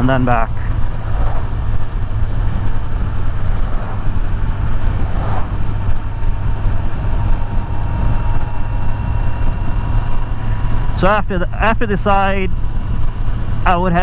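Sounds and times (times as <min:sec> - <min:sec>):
motorcycle engine cruising: 0:00.0 - 0:14.0
wind and road noise: 0:00.0 - 0:14.0.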